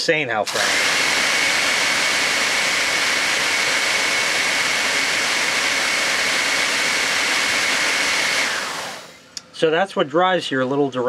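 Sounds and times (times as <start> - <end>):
air compressor motor whining: 0.5 - 9.4.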